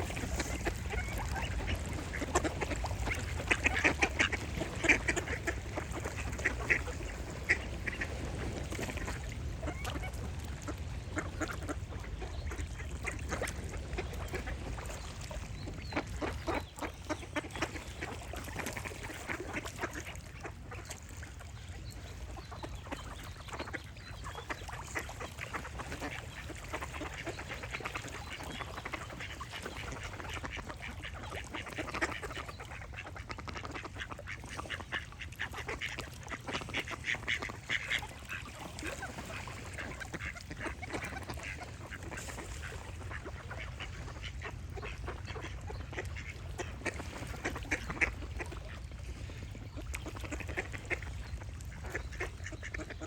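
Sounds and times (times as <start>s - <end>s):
ducks quacking: 0.0s - 21.4s, 22.3s - 49.0s, 49.7s - 53.0s.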